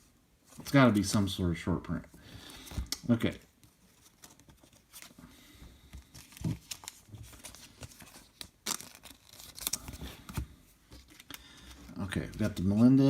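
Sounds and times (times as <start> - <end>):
cards and packaging rustling: 2.4 - 13.0.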